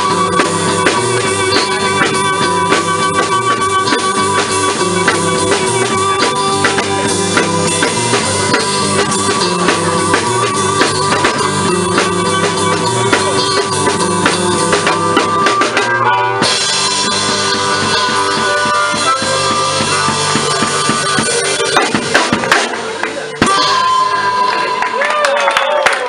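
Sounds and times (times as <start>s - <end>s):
drum kit beat: 0.0s - 24.8s
blues band playing: 0.0s - 25.2s.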